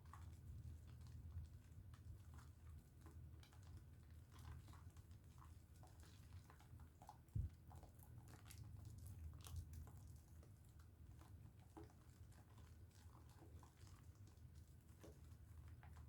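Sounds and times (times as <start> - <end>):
wet squishing of soap lather: 1.0 - 16.0.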